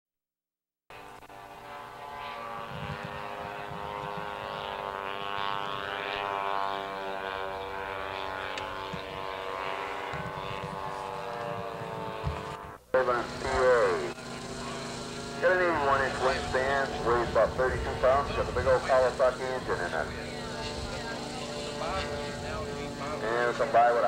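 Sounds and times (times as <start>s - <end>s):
model airplane engine running: 0.9s - 24.0s.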